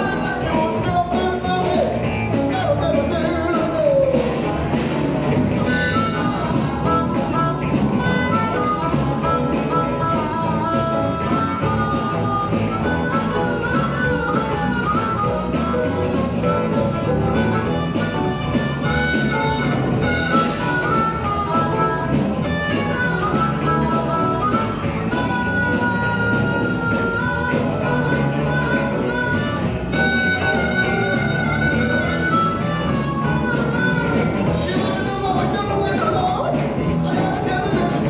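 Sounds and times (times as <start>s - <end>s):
bass: 0.0s - 38.0s
drums: 0.0s - 38.0s
electric guitar: 0.0s - 38.0s
harmonica long notes: 0.0s - 38.0s
keyboards: 0.0s - 38.0s.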